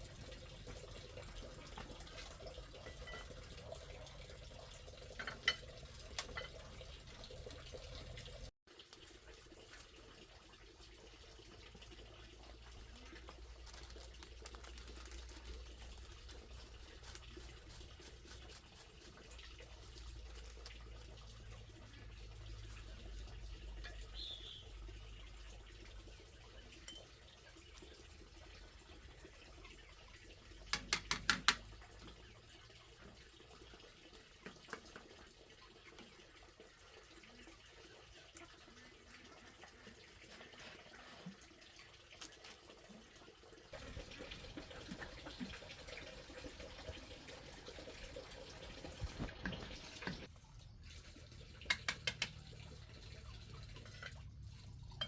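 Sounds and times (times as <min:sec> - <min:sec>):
water running and splashing: 0:00.0 - 0:55.0.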